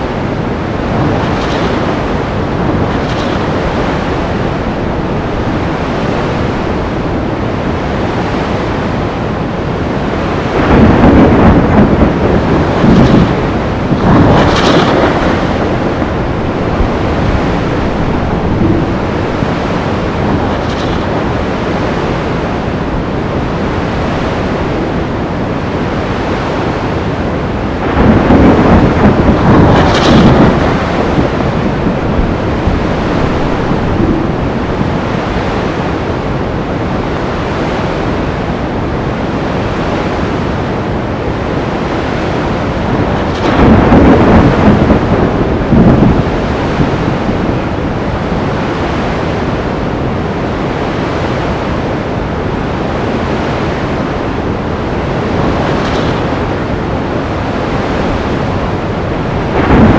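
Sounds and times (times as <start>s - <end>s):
surf and wind roaring: 0.0s - 59.9s
waves crashing: 0.0s - 59.9s.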